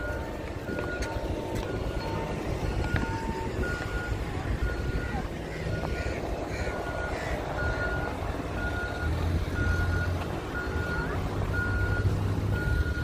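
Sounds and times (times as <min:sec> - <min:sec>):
reversing alarm beeping: 0:00.0 - 0:13.0.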